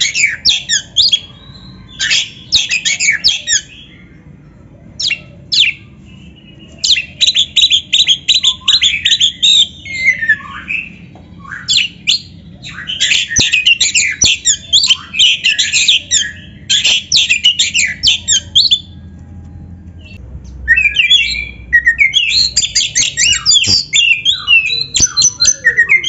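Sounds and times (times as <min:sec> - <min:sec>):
bird singing whistles and chirps: 0:00.0 - 0:04.0, 0:05.0 - 0:19.0, 0:20.0 - 0:26.0.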